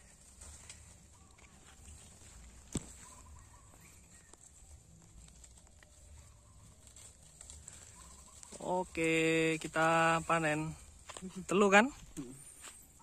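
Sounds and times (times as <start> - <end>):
palm fronds rustling: 0.0 - 13.0.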